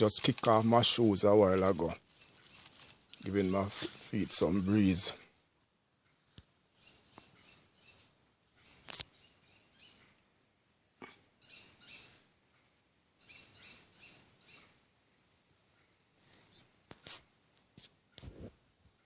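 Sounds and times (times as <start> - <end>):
bird chirping: 0.0 - 16.4.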